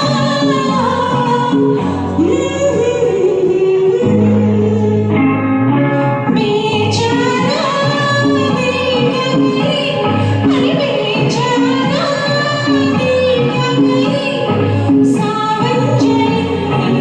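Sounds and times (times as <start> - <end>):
instrumental backing track: 0.0 - 17.0
woman singing: 0.0 - 17.0.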